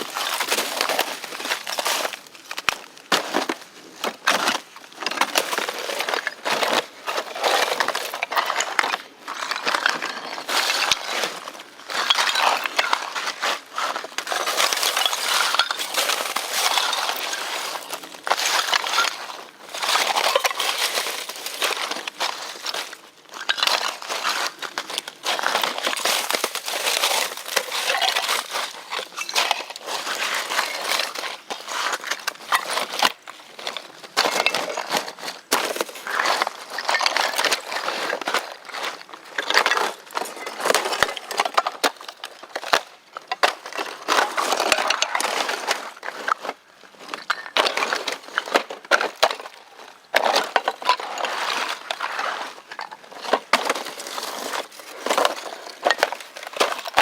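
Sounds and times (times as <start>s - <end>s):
crinkling and rustling: 0.0s - 57.0s.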